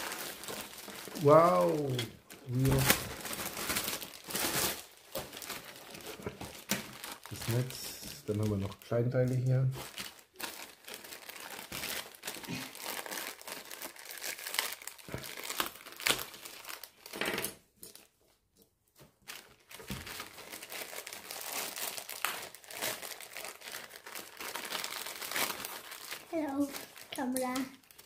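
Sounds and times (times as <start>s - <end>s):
plastic bags crinkling: 0.0s - 18.1s, 19.2s - 28.0s.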